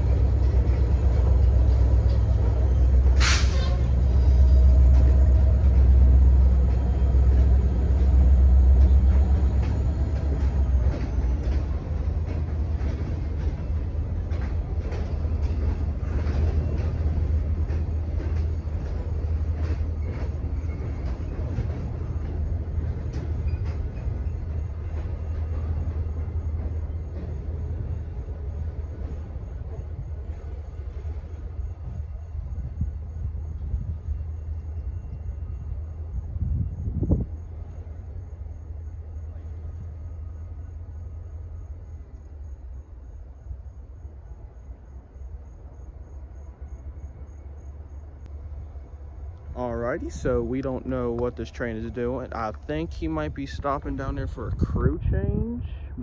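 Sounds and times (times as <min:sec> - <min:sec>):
train cars clanking: 0:00.0 - 0:54.8
freight train rumbling: 0:00.0 - 0:56.0.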